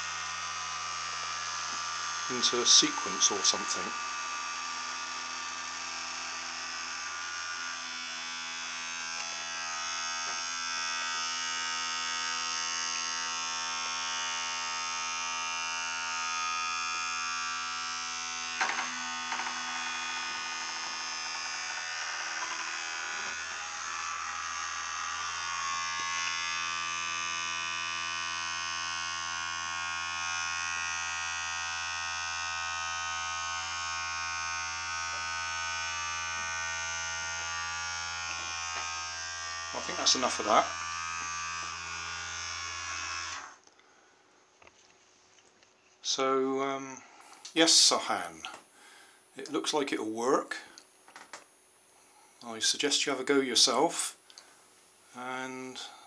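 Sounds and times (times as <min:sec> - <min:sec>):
small motor buzzing: 0:00.0 - 0:44.8, 0:53.9 - 0:56.0.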